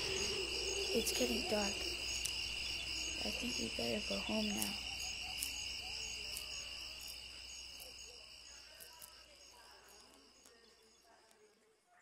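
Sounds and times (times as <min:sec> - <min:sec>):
high-pitched insect-like trill: 0:00.0 - 0:10.5.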